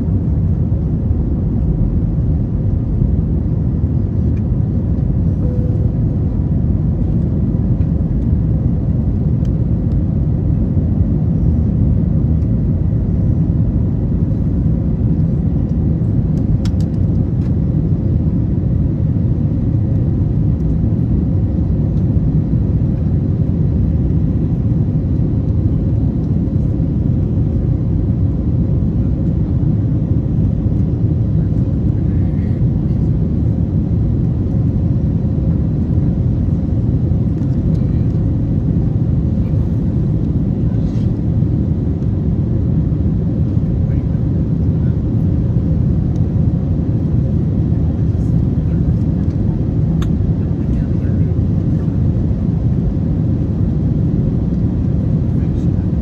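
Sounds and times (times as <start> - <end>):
airflow over fuselage: 0.0 - 56.0
jet engines running: 0.0 - 56.0.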